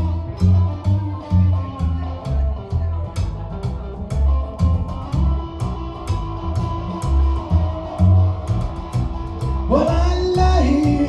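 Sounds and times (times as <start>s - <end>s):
bass guitar: 0.0s - 11.0s
drums: 0.0s - 11.0s
electric guitar: 0.0s - 11.0s.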